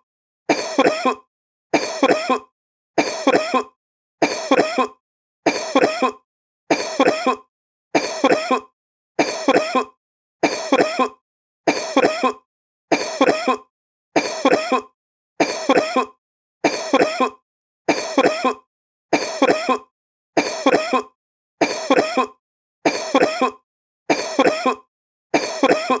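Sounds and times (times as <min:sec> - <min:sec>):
man coughing: 0:00.5 - 0:01.2, 0:01.8 - 0:03.7, 0:04.3 - 0:18.6, 0:19.2 - 0:24.8, 0:25.4 - 0:26.0.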